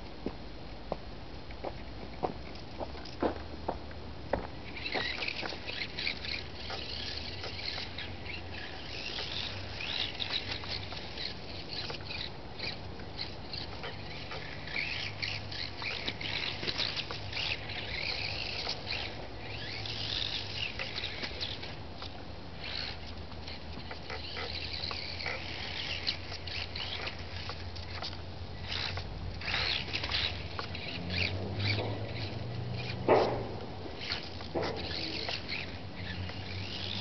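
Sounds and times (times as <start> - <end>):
steady low hum: 0.0 - 37.0
birds chirping: 4.6 - 21.8, 22.6 - 37.0.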